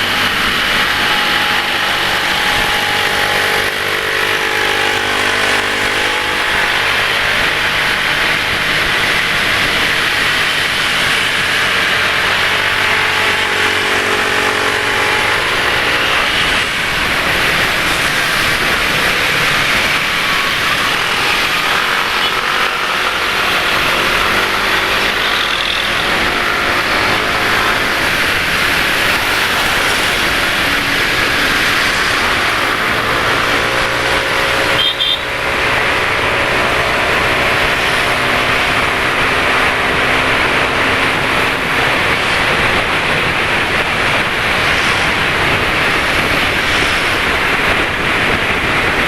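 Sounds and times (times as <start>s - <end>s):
passing vehicle engine hum: 0.0s - 49.0s
wind and road noise: 0.0s - 49.0s.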